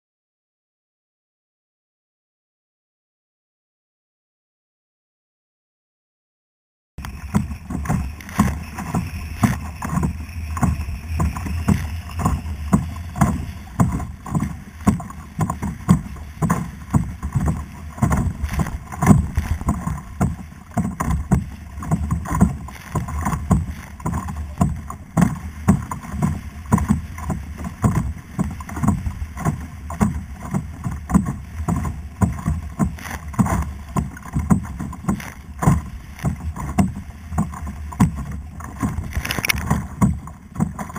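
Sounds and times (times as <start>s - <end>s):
water slapping against kayak: 7.0s - 40.9s
wind rumble on microphone: 7.0s - 40.9s.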